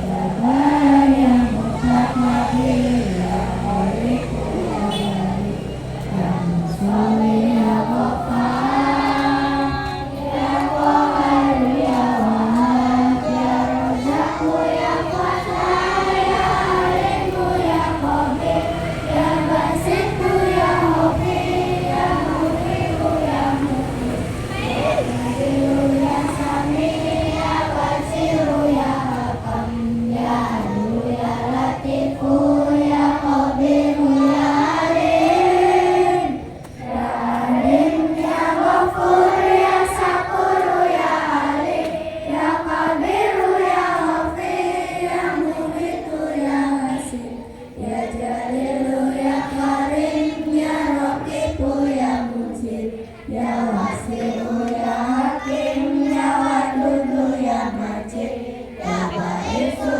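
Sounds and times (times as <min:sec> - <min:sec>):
children singing in unison: 0:00.0 - 0:59.9.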